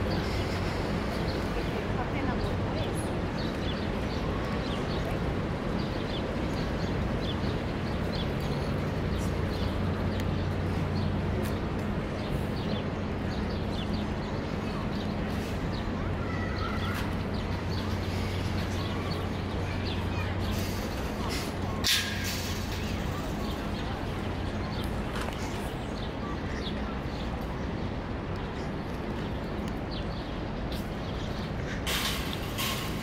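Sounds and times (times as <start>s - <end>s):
low hum of city noise: 0.0s - 33.0s
small birds chirping: 0.0s - 33.0s.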